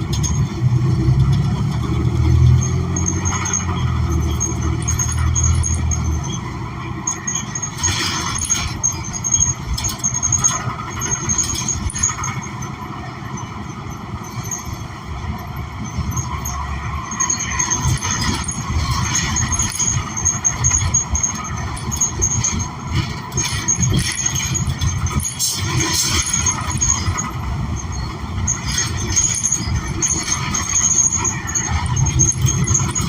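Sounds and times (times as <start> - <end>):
bus engine: 0.0 - 33.0
rattles: 0.0 - 33.0
road rumble: 0.0 - 33.0
thin high squeal: 2.2 - 33.0.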